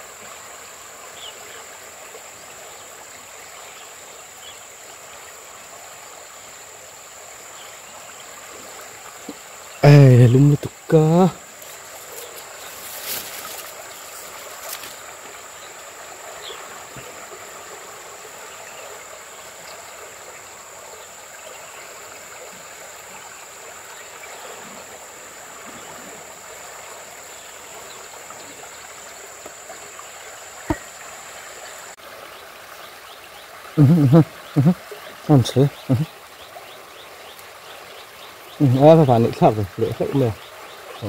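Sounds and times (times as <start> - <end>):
stream water flowing: 0.0 - 41.0.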